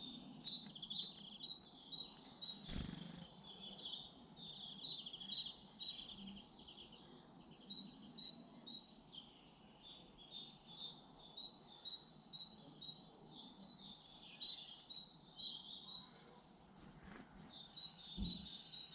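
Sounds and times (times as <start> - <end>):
faint background noise: 0.0 - 18.9
songbirds chirping: 0.0 - 18.9.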